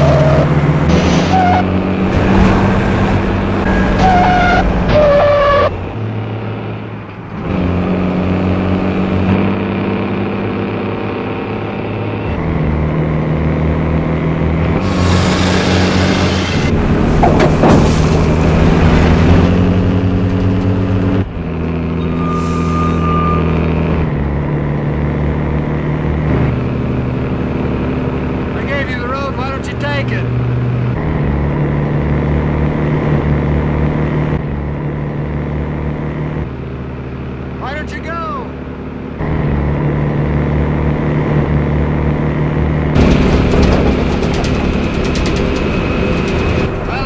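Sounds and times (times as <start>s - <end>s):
truck engine droning: 0.0s - 47.0s.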